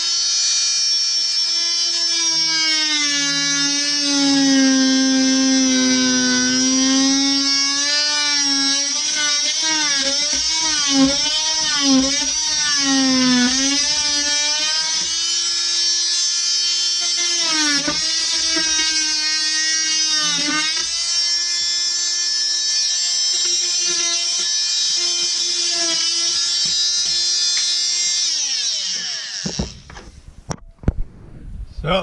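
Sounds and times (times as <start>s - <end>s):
oscillating multi-tool cutting wood: 0.0s - 30.6s.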